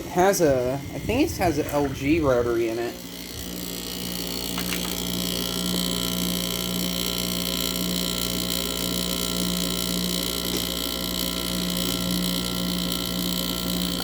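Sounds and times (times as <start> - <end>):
air conditioner humming: 0.0 - 14.0
high whine: 0.0 - 14.0.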